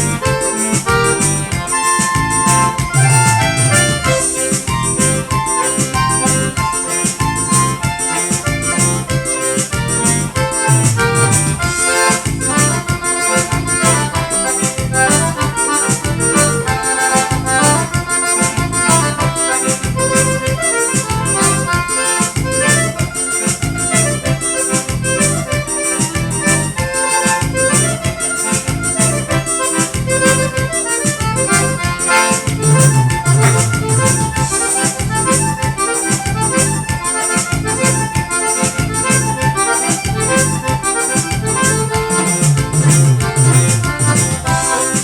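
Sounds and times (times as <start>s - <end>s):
accordion: 0.0s - 45.0s
bass: 0.0s - 45.0s
keyboard: 0.0s - 45.0s
steady beat: 0.0s - 45.0s.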